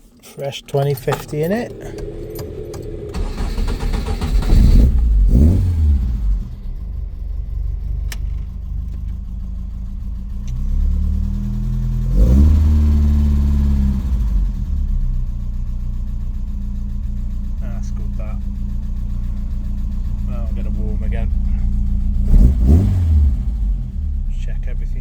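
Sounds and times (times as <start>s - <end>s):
car engine starting and idling: 0.0s - 25.0s.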